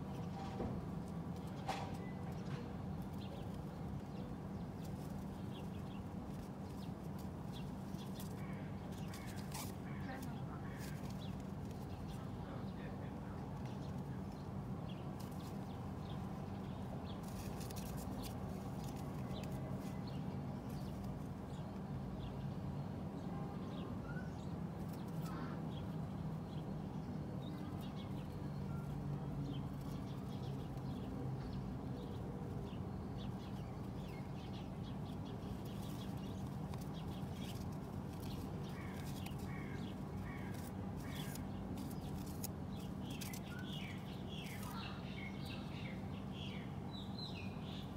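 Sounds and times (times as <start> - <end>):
pigeon clicks and scratches: 0.0 - 12.7, 13.4 - 22.0, 24.5 - 45.8.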